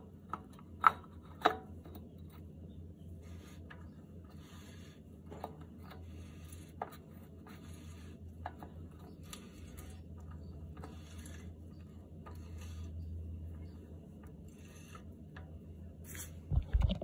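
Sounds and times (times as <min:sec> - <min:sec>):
low hum: 0:01.8 - 0:17.0.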